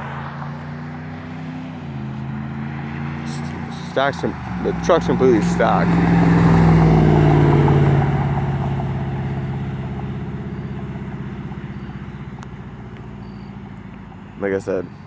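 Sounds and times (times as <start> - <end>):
loud engine exhaust: 0.0 - 15.0.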